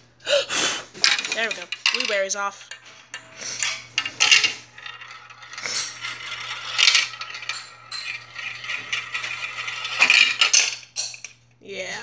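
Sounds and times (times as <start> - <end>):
marbles rattling through plastic track: 1.0 - 11.4.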